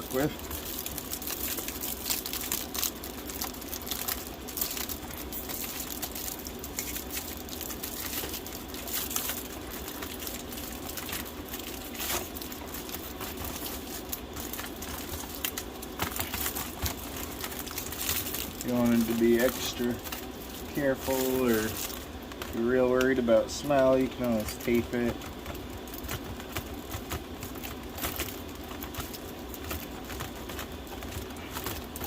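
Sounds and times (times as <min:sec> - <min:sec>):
flexible hose crinkling: 0:00.0 - 0:32.0.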